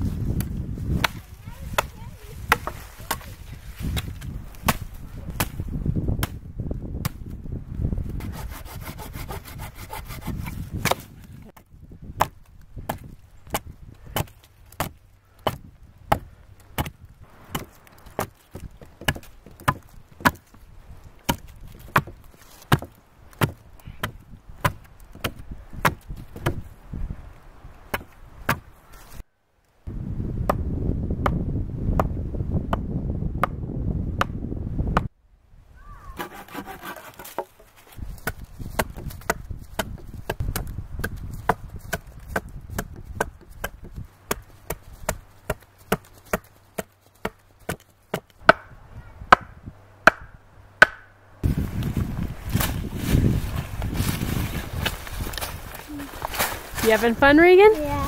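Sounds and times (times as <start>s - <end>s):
hatchet chopping sapling: 0.4s - 7.4s, 8.2s - 26.7s, 27.8s - 28.7s, 30.4s - 33.6s, 36.2s - 51.2s, 51.8s - 57.8s.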